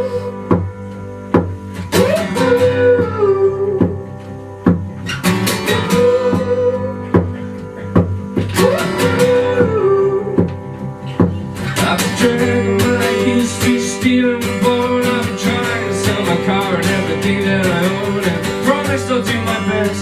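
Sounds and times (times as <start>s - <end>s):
acoustic guitars strumming: 0.0s - 20.0s
sliding lead melody: 0.0s - 20.0s.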